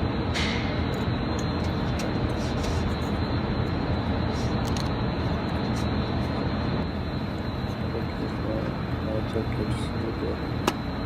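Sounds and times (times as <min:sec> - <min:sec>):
low rumble of vehicle noise: 0:00.0 - 0:11.0.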